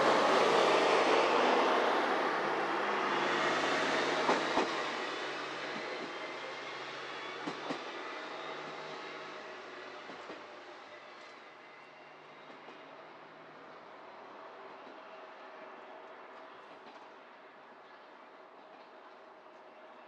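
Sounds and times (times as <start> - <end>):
train running on track: 0.0 - 20.0.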